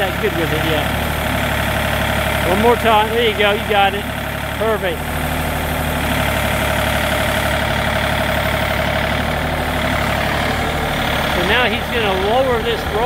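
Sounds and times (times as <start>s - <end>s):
diesel engine running: 0.0s - 13.0s
steady whine: 0.0s - 13.0s.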